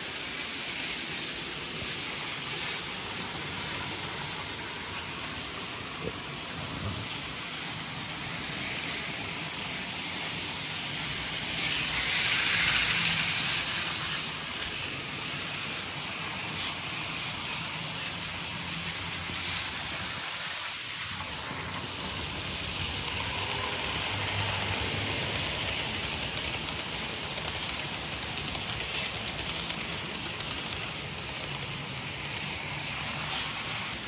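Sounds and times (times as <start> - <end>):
model train wheels rolling on rails: 0.0 - 34.0.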